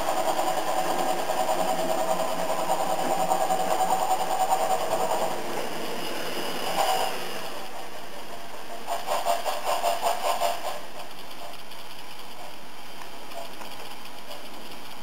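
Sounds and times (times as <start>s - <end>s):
model steam engine chuffs: 0.0s - 15.0s
steady hiss: 0.0s - 15.0s.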